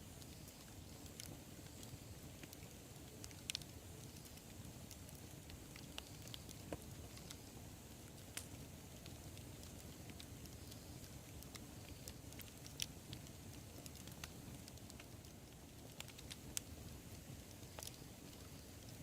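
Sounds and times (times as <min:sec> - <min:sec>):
campfire rumble: 0:00.0 - 0:19.0
fire crackles and pops: 0:00.0 - 0:19.0.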